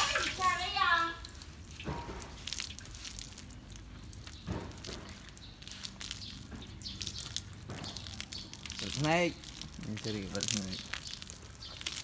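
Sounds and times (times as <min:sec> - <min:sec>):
water dripping onto ground: 0:00.0 - 0:12.0
water splashing over dog's coat: 0:00.0 - 0:12.0.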